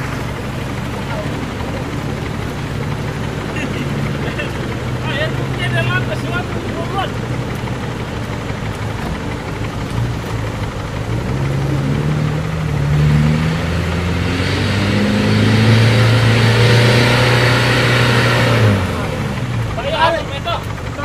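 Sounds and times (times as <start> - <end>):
truck engine labouring and revving: 0.0 - 21.0.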